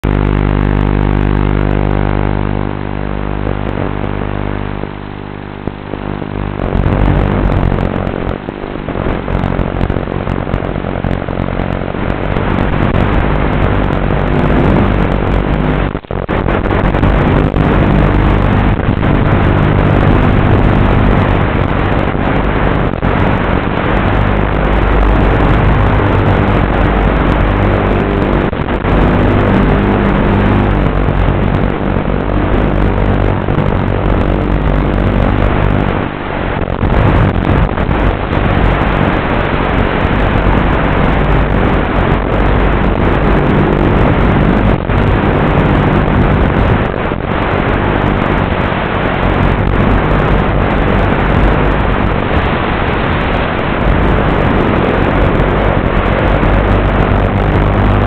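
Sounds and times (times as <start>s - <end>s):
electric motor and propeller buzz: 0.0s - 58.0s
wind rush over microphone: 0.0s - 58.0s.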